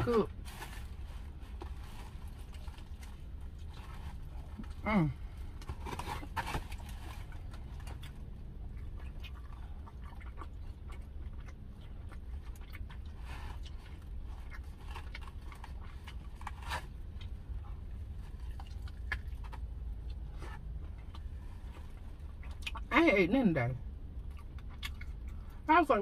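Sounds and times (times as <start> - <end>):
steady low hum: 0.0 - 26.0
person chewing: 0.8 - 22.9, 23.9 - 25.6.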